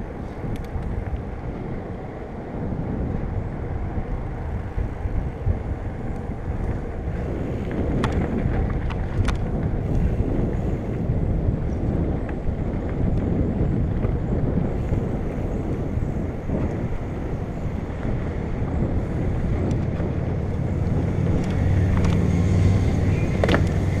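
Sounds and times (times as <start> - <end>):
bike clicks and rattles: 0.0 - 24.0
bike tyres rumbling on dirt: 0.0 - 24.0
wind buffeting microphone: 0.0 - 24.0.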